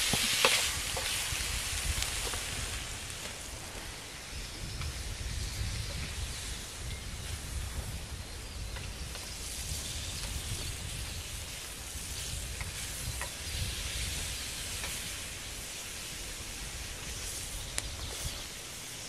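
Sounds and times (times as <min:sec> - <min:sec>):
bacon sizzling in a pan: 0:00.0 - 0:19.0.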